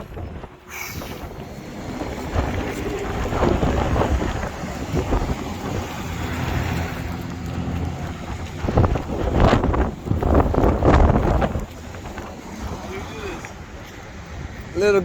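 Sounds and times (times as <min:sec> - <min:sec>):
wind gusting on microphone: 0:00.0 - 0:15.0.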